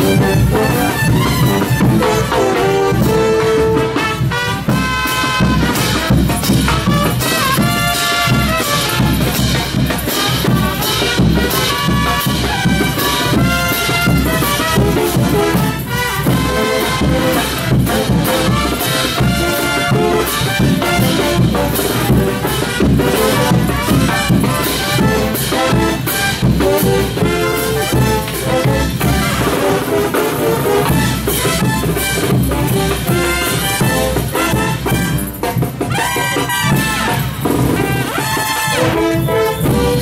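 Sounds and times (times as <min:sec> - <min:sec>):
brass band playing dance tune: 0:00.0 - 0:40.0.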